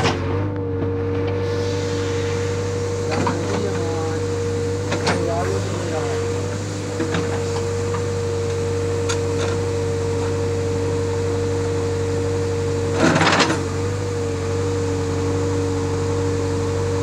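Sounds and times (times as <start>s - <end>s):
diesel engine and hydraulics whining: 0.0s - 17.0s.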